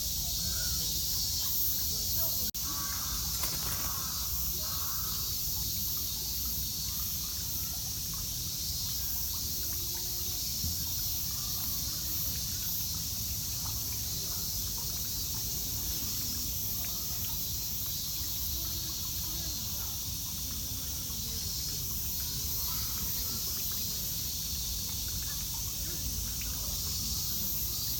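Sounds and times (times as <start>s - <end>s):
cicadas droning: 0.0s - 27.9s.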